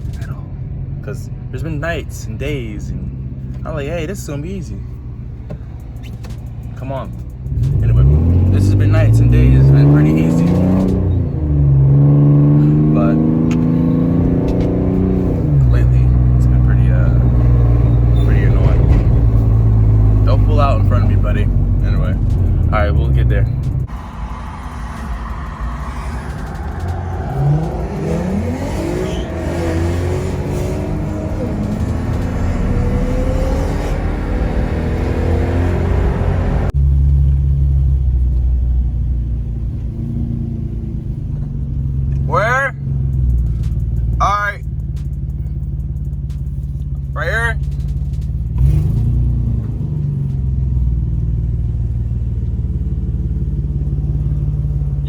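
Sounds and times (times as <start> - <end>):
car engine: 0.0 - 55.0
road noise inside car: 0.0 - 55.0.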